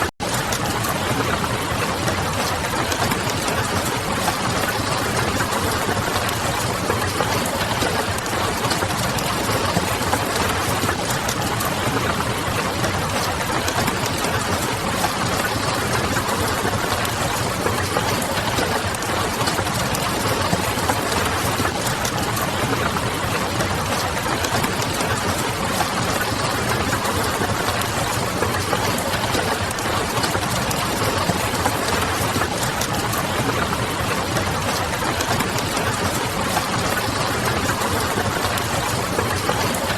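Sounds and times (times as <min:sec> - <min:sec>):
rain pattering on a window: 0:00.2 - 0:39.9.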